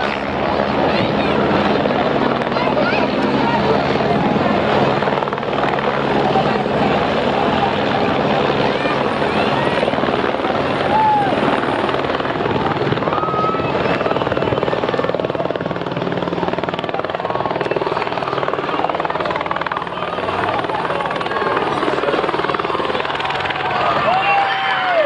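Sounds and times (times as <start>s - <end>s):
helicopter rotor chop: 0.0s - 25.0s.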